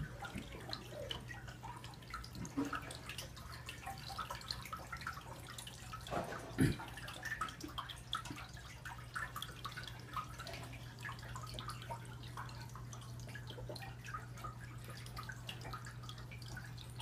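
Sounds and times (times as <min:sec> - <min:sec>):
aquarium equipment humming: 0:00.0 - 0:17.0
water trickling and dripping: 0:00.0 - 0:17.0.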